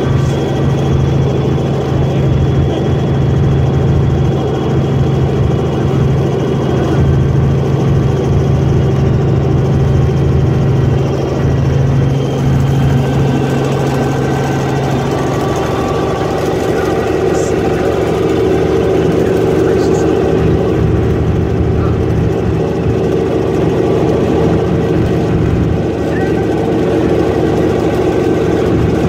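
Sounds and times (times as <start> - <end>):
helicopter engine and rotors droning: 0.0 - 29.0.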